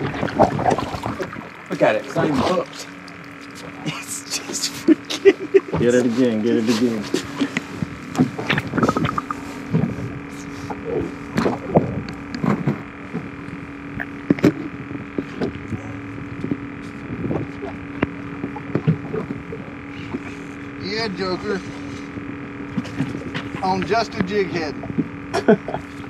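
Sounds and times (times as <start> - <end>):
low underwater hum: 0.0 - 26.0.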